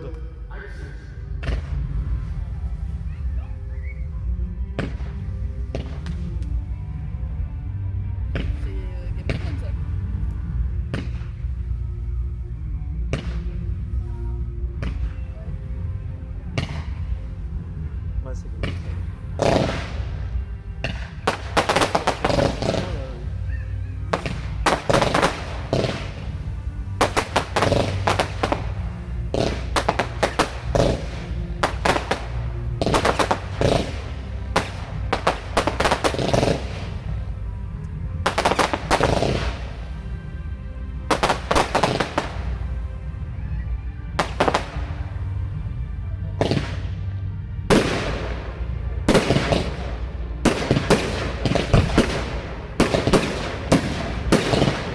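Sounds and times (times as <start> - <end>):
film soundtrack music: 0.0 - 54.9
fireworks bangs and crackles: 1.3 - 7.6, 8.2 - 14.0, 14.6 - 54.9.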